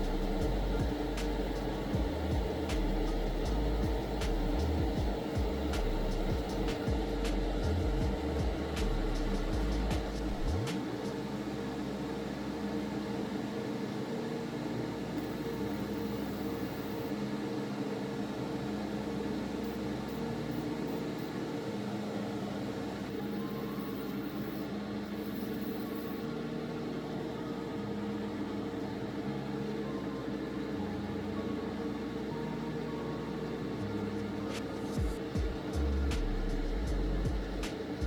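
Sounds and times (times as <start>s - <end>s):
compressor humming: 0.0s - 38.0s.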